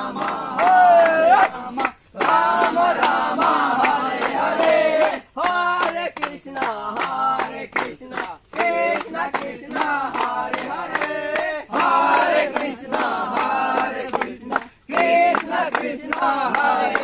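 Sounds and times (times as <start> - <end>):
hands clapping in rhythm: 0.0 - 17.0
young men chanting: 0.0 - 17.0.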